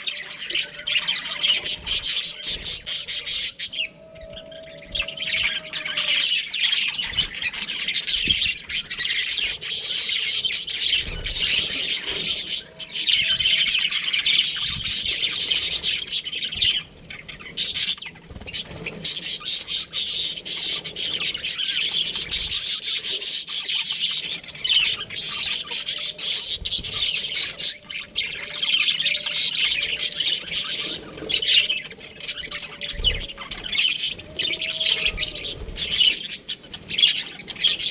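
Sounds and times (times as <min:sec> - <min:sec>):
budgerigars chirping: 0:00.0 - 0:37.9.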